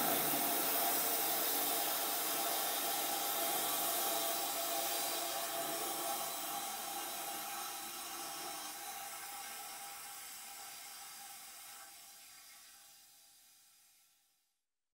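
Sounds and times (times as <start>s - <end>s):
toilet flush water hiss: 0.0s - 14.4s.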